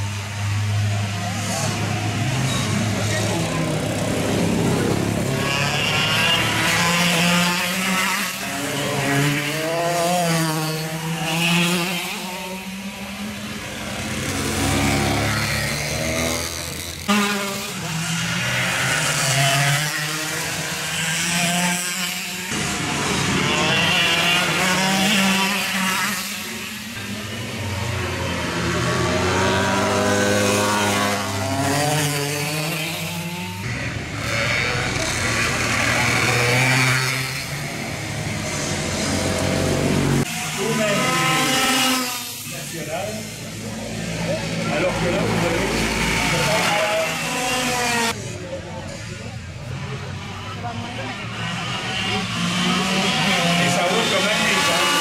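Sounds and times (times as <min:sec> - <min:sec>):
go-kart engines passing: 0:00.0 - 0:55.0.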